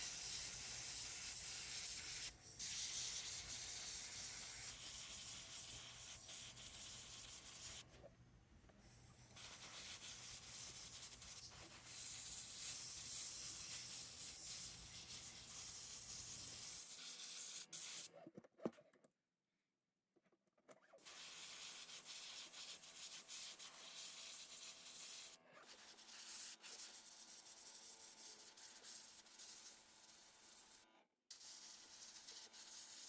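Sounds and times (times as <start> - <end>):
airbrush hissing: 0.0 - 7.8, 8.8 - 18.1, 21.0 - 30.6, 31.3 - 33.0.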